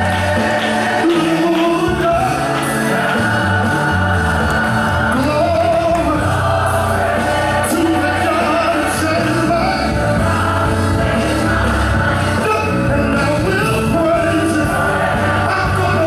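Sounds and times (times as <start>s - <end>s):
band playing: 0.0s - 16.0s
choir singing gospel song: 0.0s - 16.0s.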